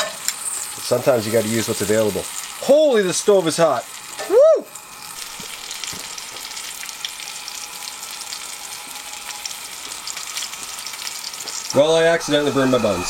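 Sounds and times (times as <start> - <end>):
food sizzling and frying: 0.0 - 13.0.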